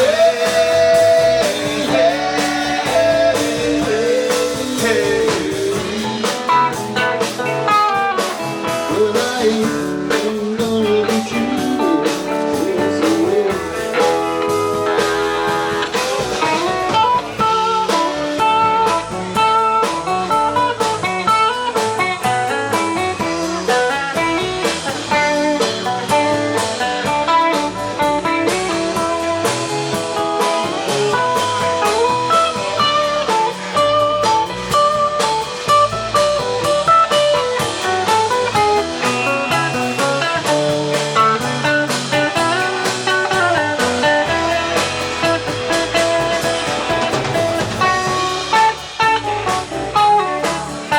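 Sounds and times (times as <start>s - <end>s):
bass guitar: 0.0s - 50.9s
drum kit steady beat: 0.0s - 50.9s
electric guitar lead runs: 0.0s - 50.9s
strummed rhythm guitar: 0.0s - 50.9s.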